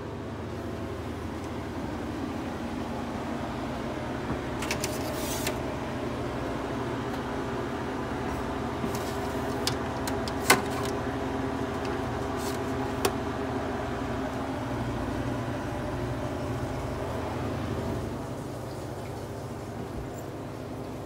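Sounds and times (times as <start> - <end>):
freeze dryer humming: 0.0 - 21.0.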